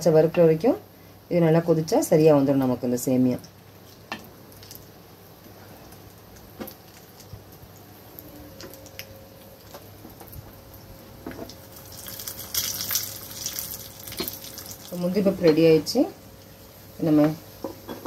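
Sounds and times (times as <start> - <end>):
nuts sizzling in oil: 2.6 - 17.9.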